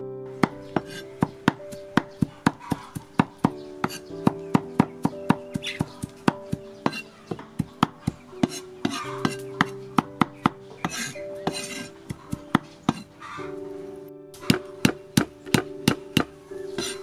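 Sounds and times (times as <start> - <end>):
cleaver chopping on wooden board: 0.4 - 13.1, 14.4 - 17.0.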